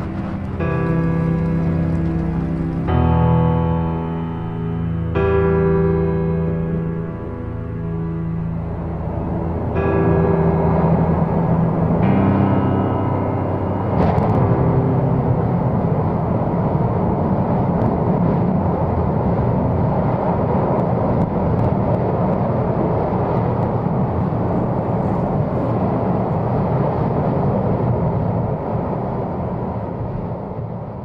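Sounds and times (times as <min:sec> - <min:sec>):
lava fountain roaring: 0:00.0 - 0:04.9, 0:08.6 - 0:31.0.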